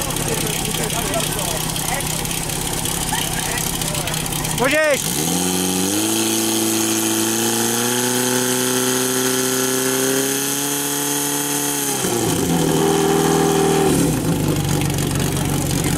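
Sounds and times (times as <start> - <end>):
pump engine running at high revs: 0.0 - 15.9.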